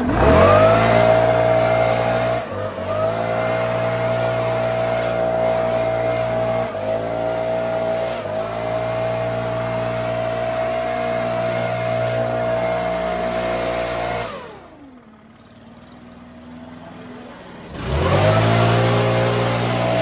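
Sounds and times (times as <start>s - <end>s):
leaf blower engine: 0.0s - 20.0s.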